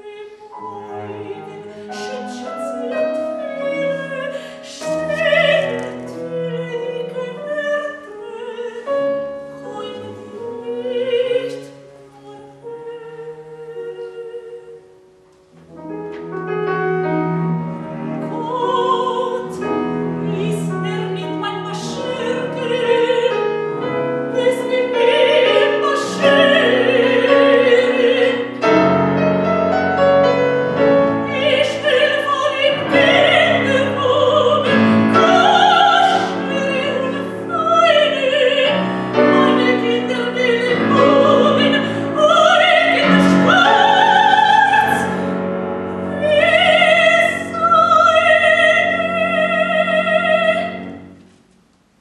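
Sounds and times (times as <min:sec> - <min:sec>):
operatic soprano singing: 0:00.0 - 0:15.0, 0:18.1 - 0:51.2
grand piano accompaniment: 0:00.0 - 0:52.0.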